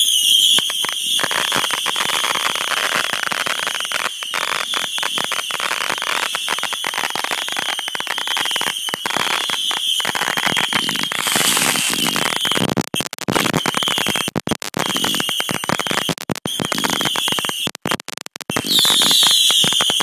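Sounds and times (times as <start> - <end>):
fireworks crackling pops: 0.0 - 20.0.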